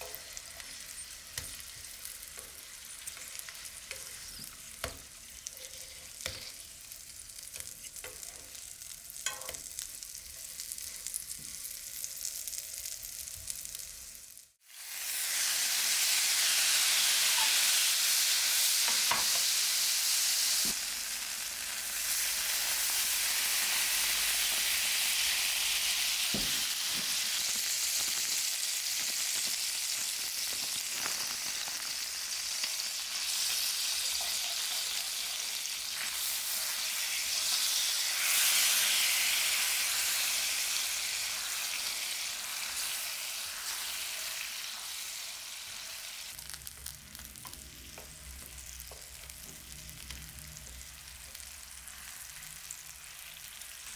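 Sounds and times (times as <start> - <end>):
food sizzling in a frying pan: 0.0 - 53.9.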